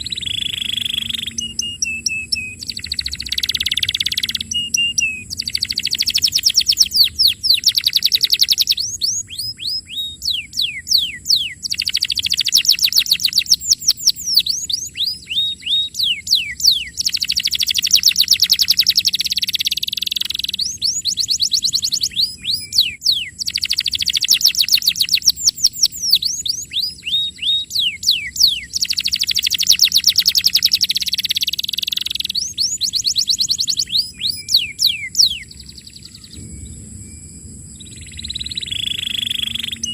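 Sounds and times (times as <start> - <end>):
canary singing: 0.0 - 36.5, 37.8 - 39.9.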